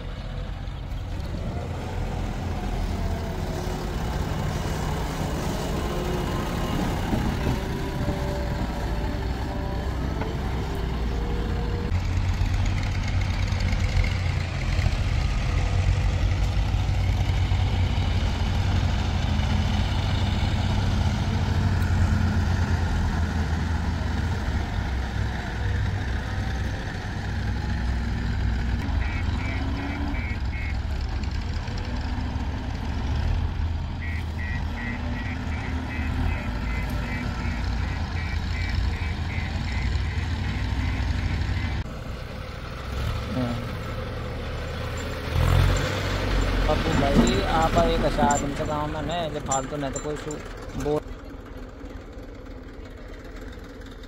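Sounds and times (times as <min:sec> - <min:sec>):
heavy diesel engines under load: 0:00.0 - 0:54.0.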